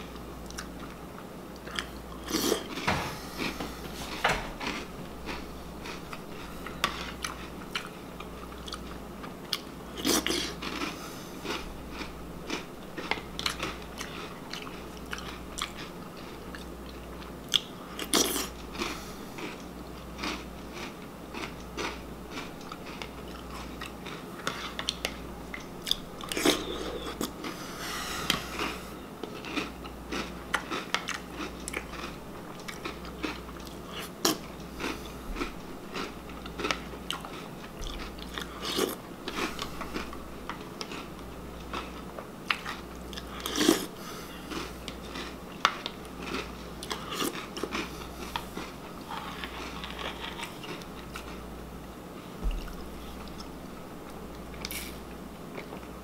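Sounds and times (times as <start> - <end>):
crunchy cereal chewing: 1.6 - 51.5.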